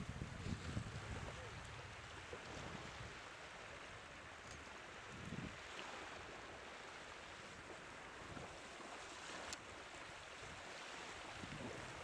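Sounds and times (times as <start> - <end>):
surf washing: 0.0 - 12.0
wind: 0.0 - 12.0.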